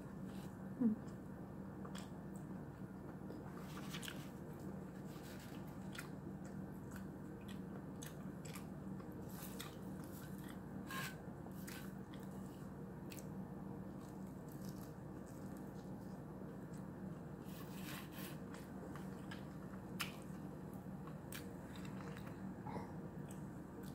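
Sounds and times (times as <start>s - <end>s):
low steady hum: 0.0s - 23.9s
woman chewing: 3.2s - 22.4s.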